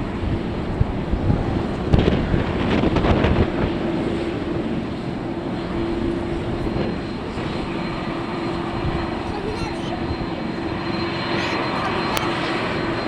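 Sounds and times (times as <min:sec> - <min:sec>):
airliner engines running: 0:00.0 - 0:13.0
wind buffeting microphone: 0:00.0 - 0:13.0.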